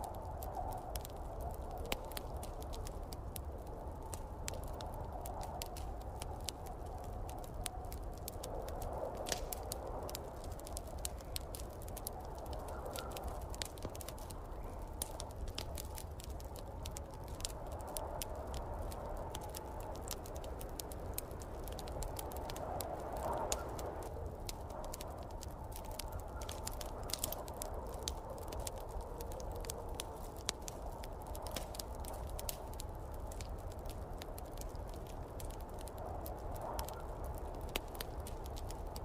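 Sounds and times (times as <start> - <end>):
fire crackling and popping: 0.0 - 39.0
howling wind: 0.0 - 39.0.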